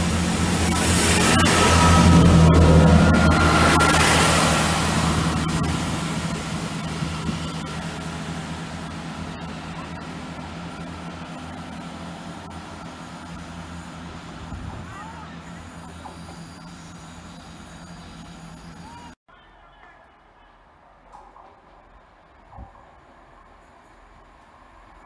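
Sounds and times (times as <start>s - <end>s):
diesel train engine drone: 0.0s - 19.2s, 21.6s - 25.0s
rail noise: 0.0s - 25.0s.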